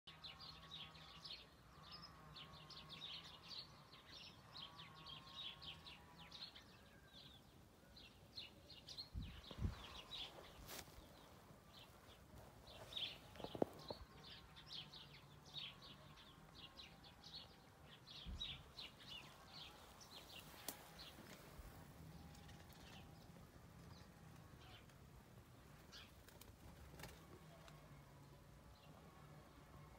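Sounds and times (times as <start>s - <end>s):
small birds chirping: 0.1s - 29.9s.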